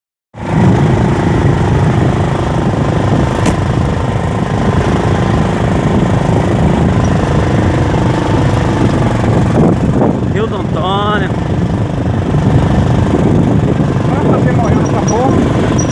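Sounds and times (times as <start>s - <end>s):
engine running: 0.4s - 15.9s.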